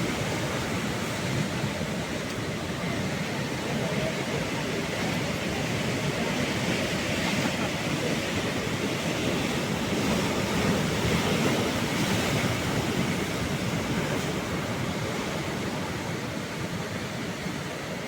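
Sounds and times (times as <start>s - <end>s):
sea waves washing onto shore: 0.0s - 18.0s.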